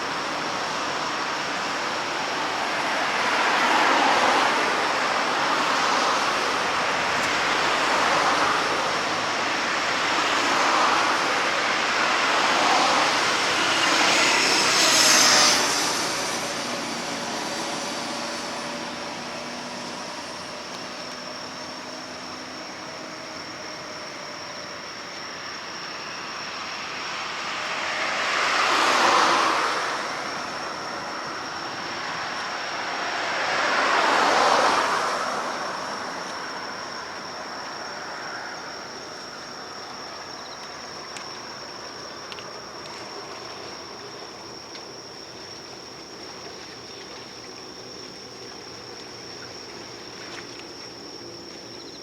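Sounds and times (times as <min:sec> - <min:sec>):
vehicles passing whoosh: 0:00.0 - 0:23.5, 0:26.0 - 0:44.6
high-pitched insect trill: 0:00.0 - 0:52.0.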